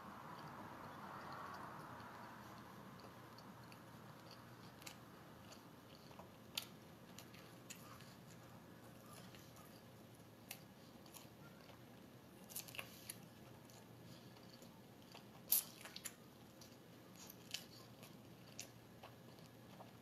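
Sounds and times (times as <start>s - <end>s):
chewing with mouth clicks: 0.1s - 20.0s.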